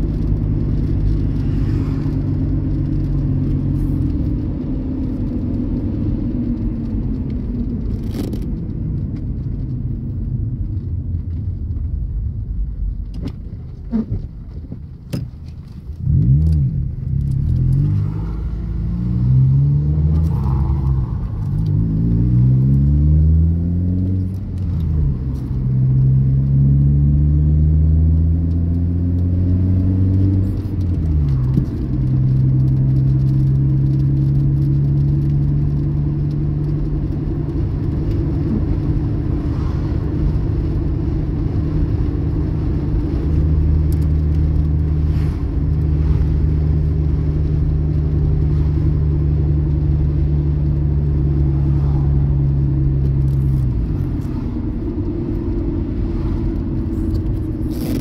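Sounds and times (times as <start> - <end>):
car engine revving: 0.0 - 8.4, 15.7 - 58.0.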